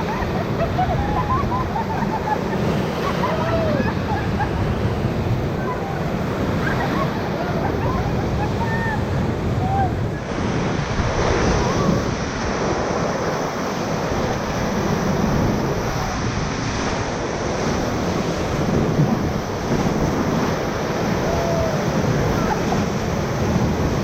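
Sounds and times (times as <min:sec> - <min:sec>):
whitewater rapids rushing: 0:00.0 - 0:24.0
wind buffeting microphone: 0:00.0 - 0:24.0.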